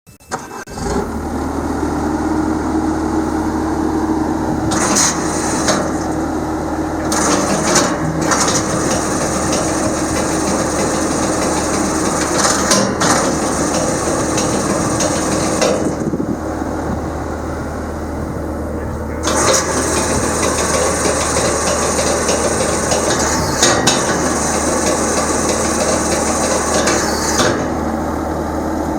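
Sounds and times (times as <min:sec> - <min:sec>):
skid steer engine running: 0:00.3 - 0:28.9.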